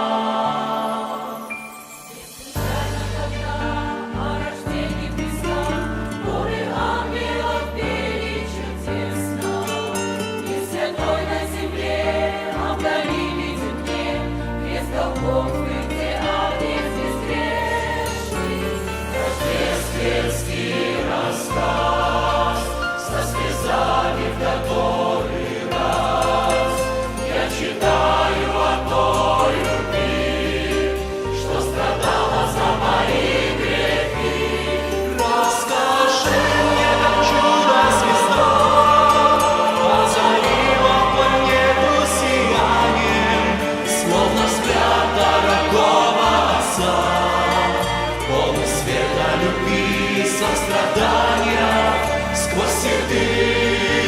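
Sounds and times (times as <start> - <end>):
church choir singing: 0.0 - 54.0
instrumental accompaniment: 0.0 - 54.0.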